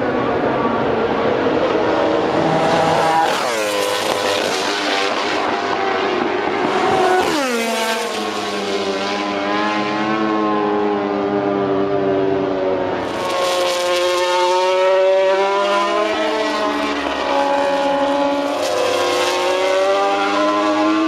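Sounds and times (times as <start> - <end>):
racing motorcycles passing by: 0.0 - 21.0.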